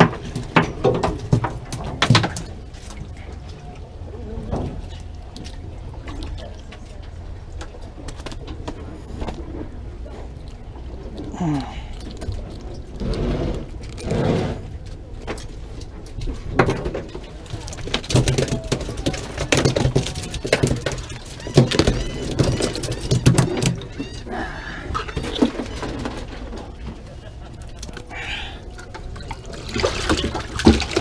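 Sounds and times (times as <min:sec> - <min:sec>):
fish flopping on boat deck: 0:00.0 - 0:31.0.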